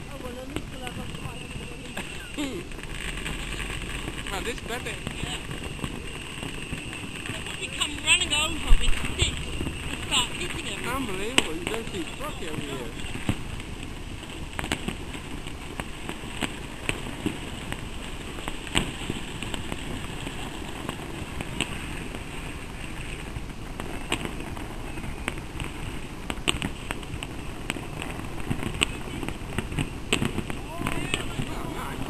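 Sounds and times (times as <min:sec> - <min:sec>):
fireworks bangs and cracks: 0:00.0 - 0:32.0
steady background noise: 0:00.0 - 0:32.0.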